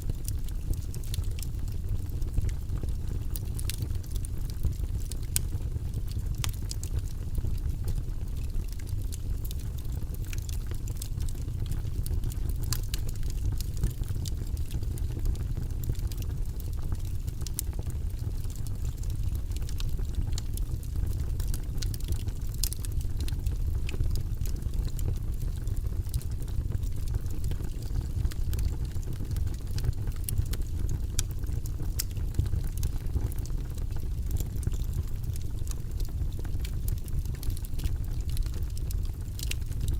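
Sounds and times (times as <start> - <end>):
fire crackling and popping: 0.0 - 39.9
flames burning: 0.0 - 39.9.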